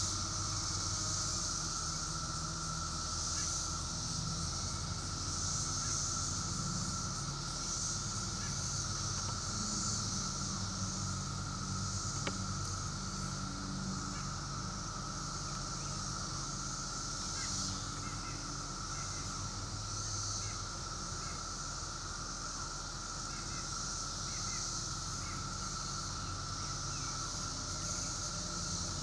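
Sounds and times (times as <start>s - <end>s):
cicada chorus drone: 0.0s - 29.0s.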